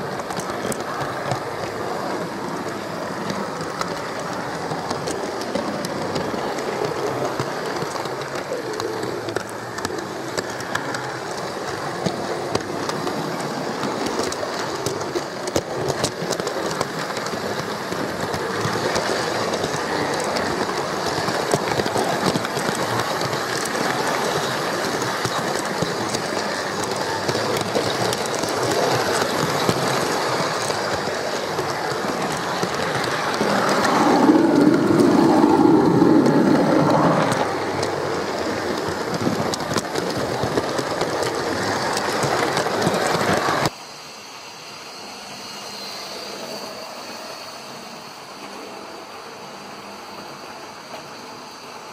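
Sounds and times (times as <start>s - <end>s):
model train wheels clicking on rails: 0.0s - 51.9s.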